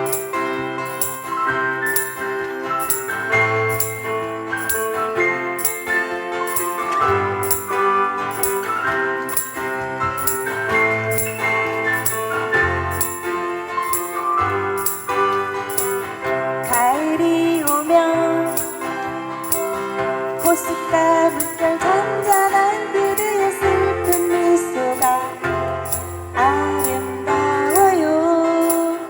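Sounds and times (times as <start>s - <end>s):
sustained keyboard chords: 0.0s - 29.0s
tambourine-like jingling shake: 0.0s - 29.0s.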